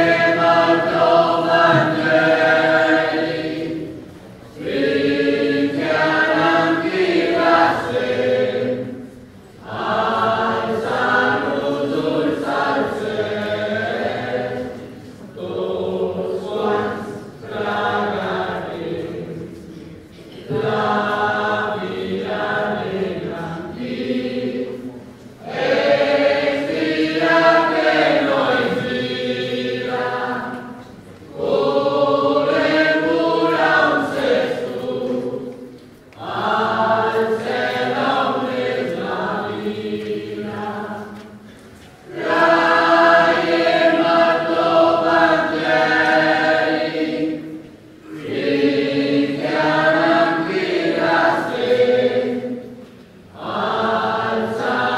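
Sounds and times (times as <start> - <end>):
choir singing a hymn: 0.0 - 54.9.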